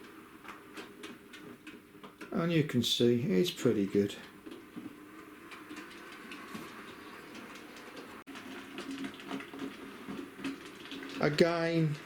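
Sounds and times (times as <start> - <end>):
wheels clicking on rails: 0.0 - 12.0.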